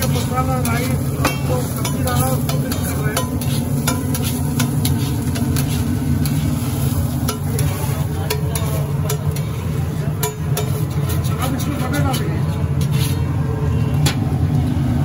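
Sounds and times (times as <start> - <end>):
metal spatula clacking on griddle: 0.0 - 13.2.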